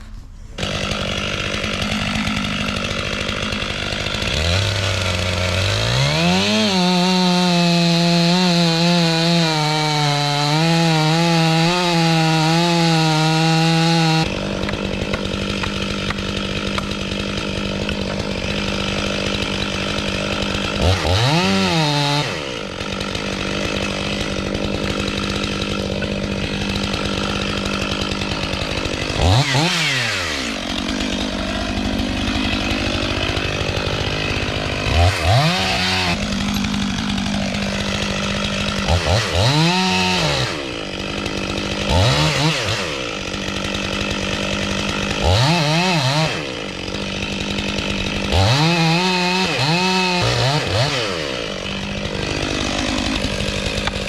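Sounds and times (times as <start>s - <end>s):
chainsaw running and revving: 0.0s - 54.0s.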